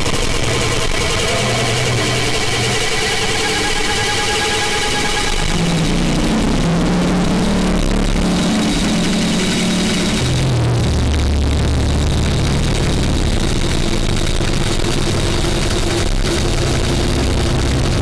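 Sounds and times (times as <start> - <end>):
distorted noise music: 0.0 - 18.0
low droning hum: 0.0 - 18.0.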